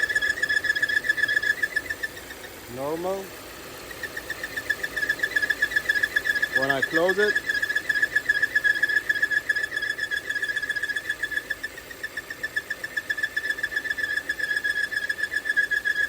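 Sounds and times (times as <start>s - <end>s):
high pulsing whistle of air leak: 0.0s - 16.0s.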